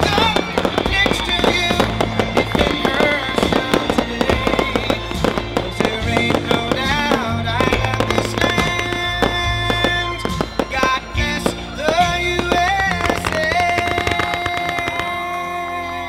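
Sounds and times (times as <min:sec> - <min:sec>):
music playing: 0:00.0 - 0:16.0.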